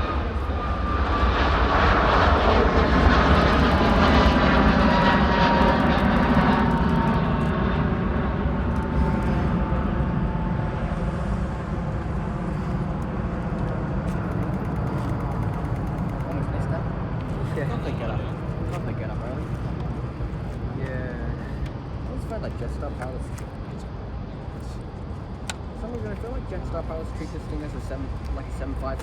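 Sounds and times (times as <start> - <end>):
jet airliner passing: 0.0 - 29.0.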